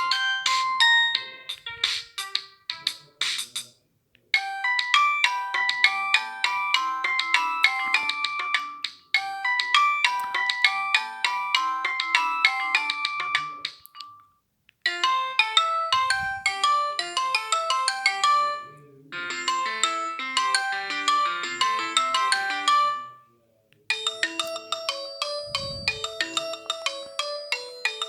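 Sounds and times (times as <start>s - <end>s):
polyphonic phone ringtones: 0.0s - 3.6s, 4.4s - 14.3s, 14.9s - 23.3s, 23.9s - 28.0s.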